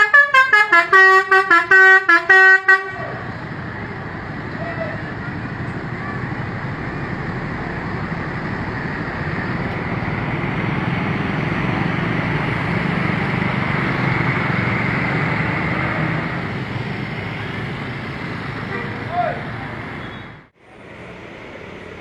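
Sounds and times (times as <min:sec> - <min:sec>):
vehicle passing by: 0:02.7 - 0:22.0.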